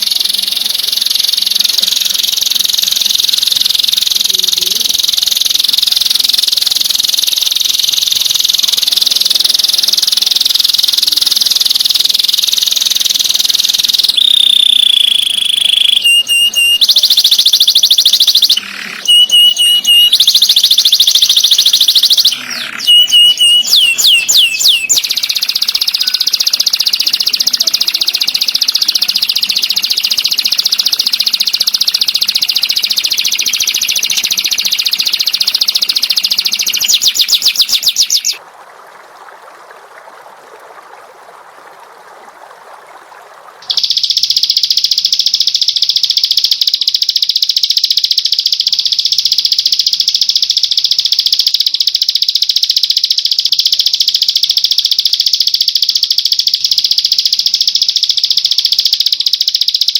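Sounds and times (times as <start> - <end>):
songbird trilling and whistling: 0.0 - 38.4, 43.6 - 59.9.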